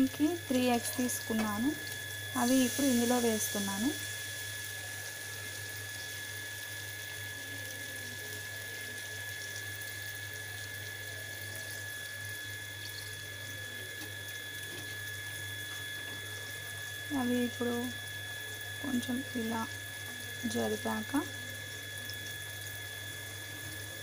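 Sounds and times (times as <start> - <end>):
eggs sizzling in hot oil: 0.0 - 24.0.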